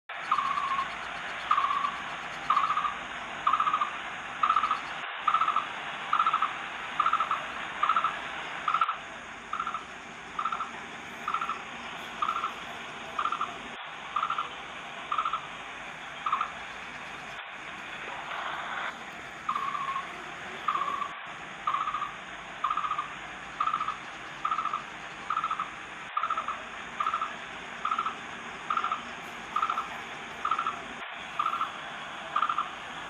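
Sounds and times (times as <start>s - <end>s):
steady hiss: 0.1s - 33.0s.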